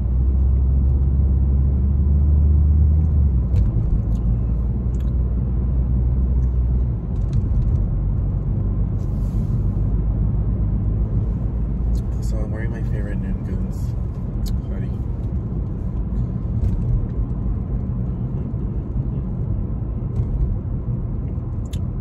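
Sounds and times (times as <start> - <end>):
car rumble inside cabin: 0.0 - 22.0.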